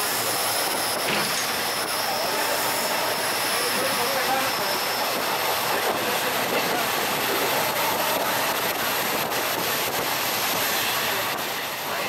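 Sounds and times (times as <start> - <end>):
rolling train noise: 0.0 - 12.0.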